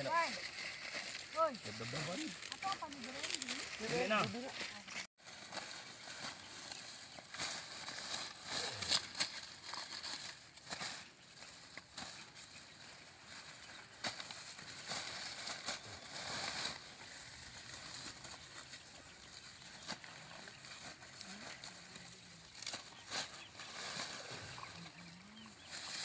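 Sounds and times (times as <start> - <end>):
corn husks rustling and crackling: 0.0 - 26.0.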